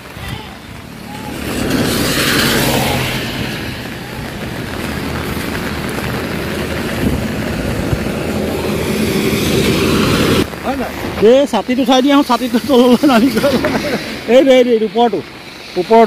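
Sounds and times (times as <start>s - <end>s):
steady rain: 0.0s - 16.0s
tyres hissing on wet road: 0.0s - 16.0s.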